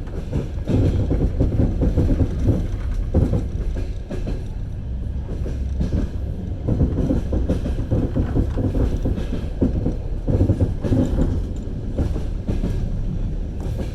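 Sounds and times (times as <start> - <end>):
low rumble of moving train: 0.0 - 13.9
train wheels clattering over joints: 0.0 - 13.9.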